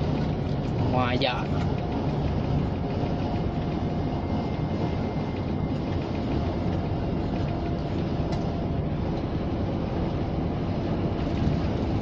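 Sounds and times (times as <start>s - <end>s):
lorry engine and road noise: 0.0s - 12.0s.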